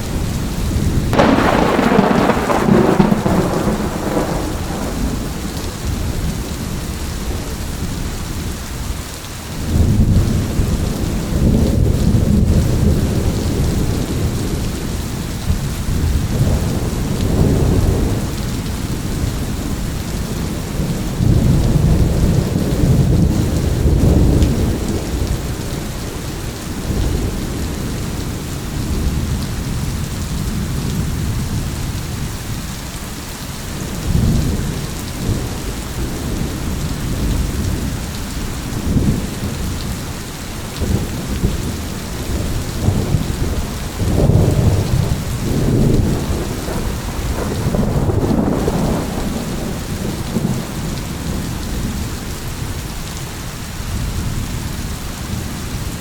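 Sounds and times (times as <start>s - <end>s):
deep thunder rumbling: 0.0s - 8.6s, 9.6s - 32.2s, 33.7s - 52.8s
rain falling: 0.0s - 56.0s.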